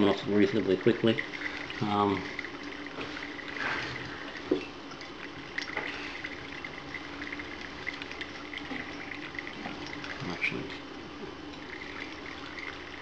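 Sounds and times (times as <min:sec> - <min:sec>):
liquid trickling into glass jar: 0:00.0 - 0:13.0.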